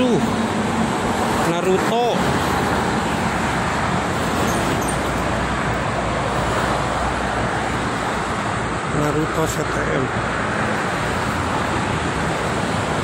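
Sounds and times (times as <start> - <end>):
traffic passing: 0.0 - 13.0.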